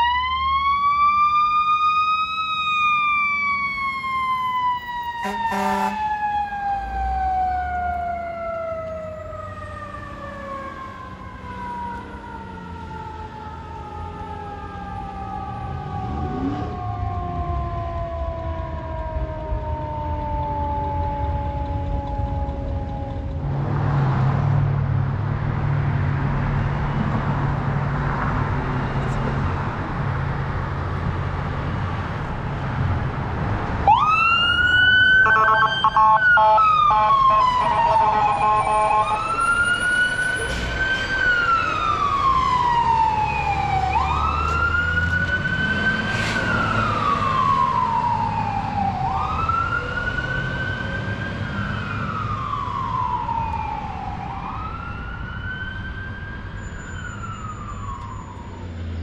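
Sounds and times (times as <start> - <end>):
electronic siren wailing: 0.0 - 23.6, 33.8 - 58.6
fire engine motor rumbling: 0.0 - 23.9, 24.7 - 59.0.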